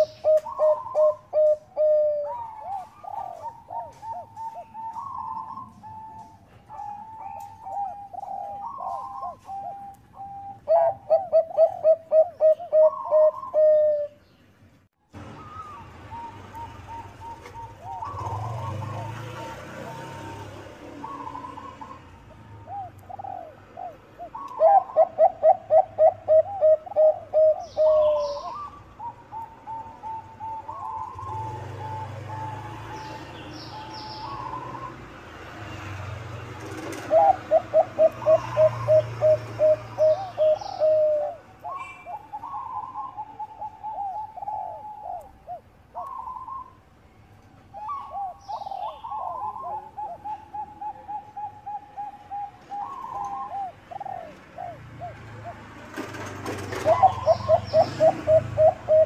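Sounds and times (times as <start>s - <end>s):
dove cooing: 0.0s - 14.2s, 15.2s - 35.1s, 36.6s - 46.8s, 47.7s - 59.0s.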